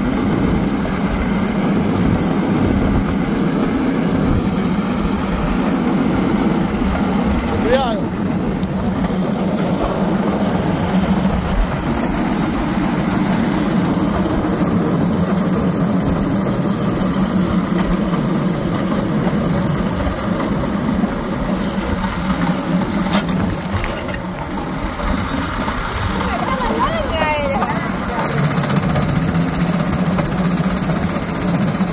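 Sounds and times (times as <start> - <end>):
small railcart engine running: 0.0 - 31.9.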